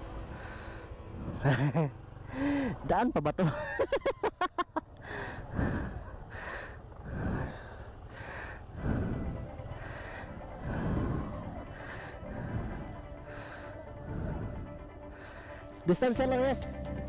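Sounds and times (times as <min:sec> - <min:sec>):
heavy breathing: 0:00.0 - 0:02.9, 0:05.0 - 0:15.9
low motorcycle engine: 0:00.0 - 0:17.0.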